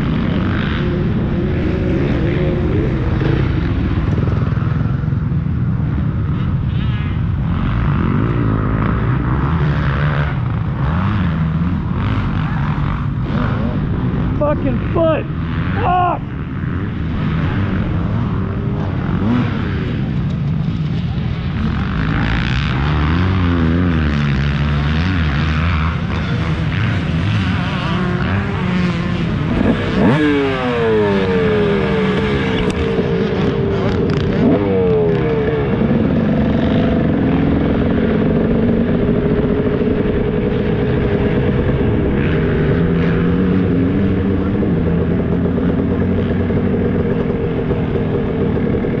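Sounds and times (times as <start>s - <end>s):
motocross bike engine at low throttle: 0.0s - 49.0s.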